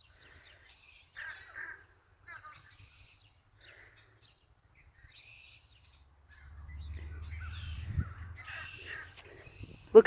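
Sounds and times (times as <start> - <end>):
seagulls calling: 0.0 - 4.4, 5.0 - 10.0.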